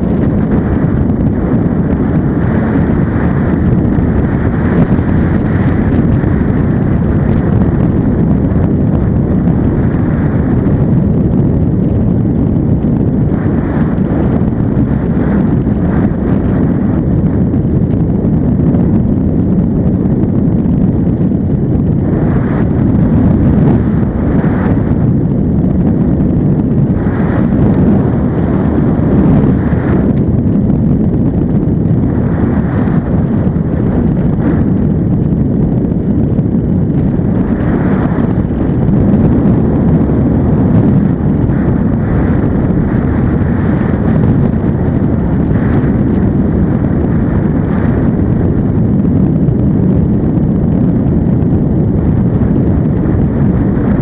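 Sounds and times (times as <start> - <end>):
ultralight engine and propeller drone: 0.0 - 54.0
wind rush on microphone: 0.0 - 54.0.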